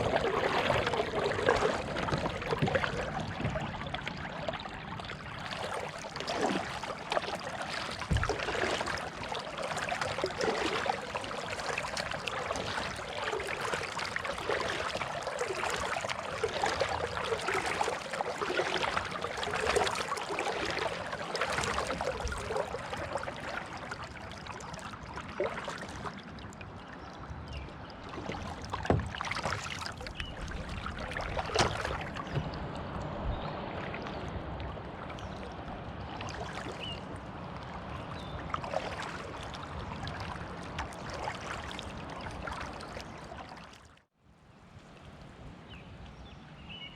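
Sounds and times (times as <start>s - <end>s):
water splashing and dripping: 0.0s - 26.6s, 28.0s - 33.0s, 36.2s - 37.0s, 38.5s - 43.9s
kayak paddle strokes in water: 0.0s - 26.8s, 27.4s - 43.9s.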